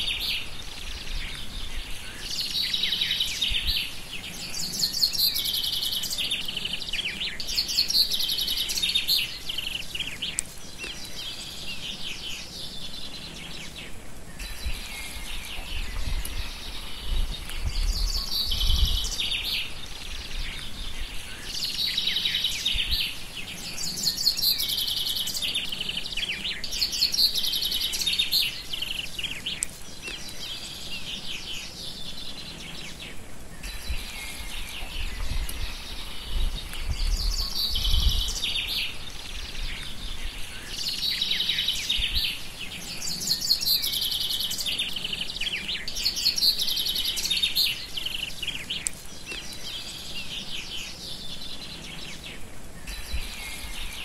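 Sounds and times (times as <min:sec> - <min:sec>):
songbird trilling and whistling: 0:00.0 - 0:33.0, 0:33.6 - 0:52.2.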